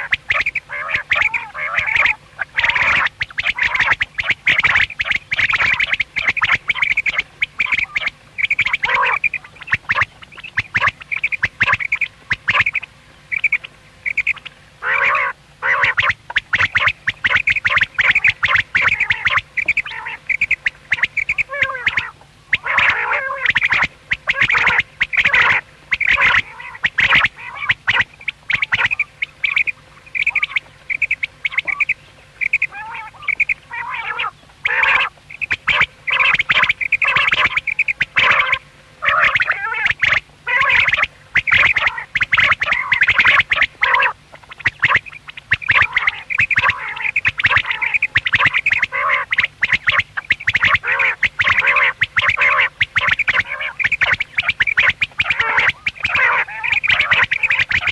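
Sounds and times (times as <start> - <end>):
quail calling: 0.0 - 57.9.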